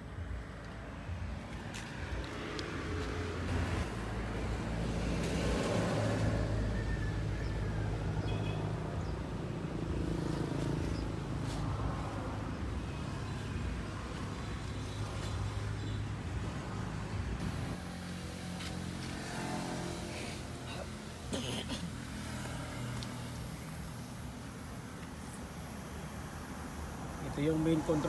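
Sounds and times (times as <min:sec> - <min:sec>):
engine humming: 0:00.7 - 0:28.0.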